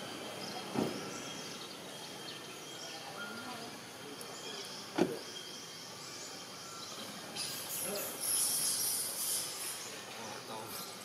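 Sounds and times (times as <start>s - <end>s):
faint chirps: 0.0s - 11.0s
thin steady high tone: 0.0s - 11.0s.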